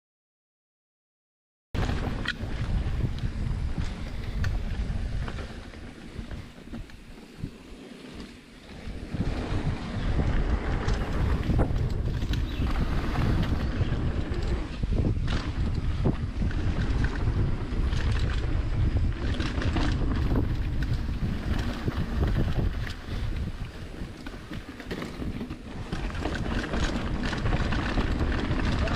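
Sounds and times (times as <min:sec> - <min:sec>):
bike rattling over bumps: 0:01.8 - 0:28.9
wind buffeting microphone: 0:01.8 - 0:28.9.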